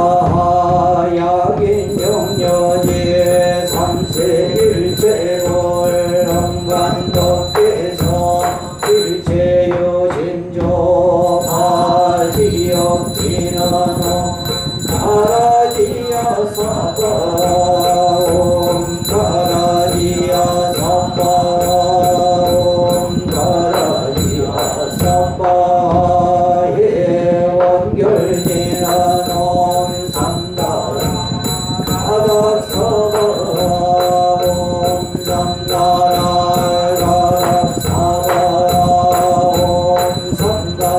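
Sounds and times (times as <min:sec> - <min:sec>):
steady percussive beat: 0:00.0 - 0:26.6, 0:27.6 - 0:40.9
monk and congregation chanting: 0:00.0 - 0:40.9.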